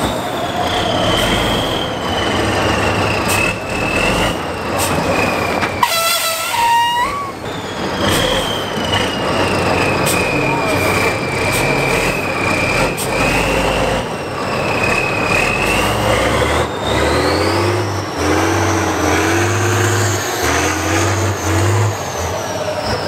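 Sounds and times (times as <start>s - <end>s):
diesel truck engine revving: 0.0s - 23.0s.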